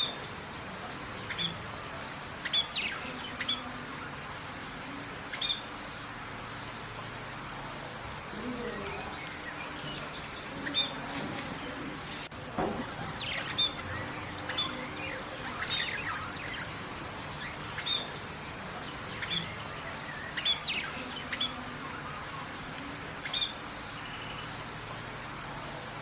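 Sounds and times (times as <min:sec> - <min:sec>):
birds chirping: 0:00.0 - 0:26.0
steady background hiss: 0:00.0 - 0:26.0.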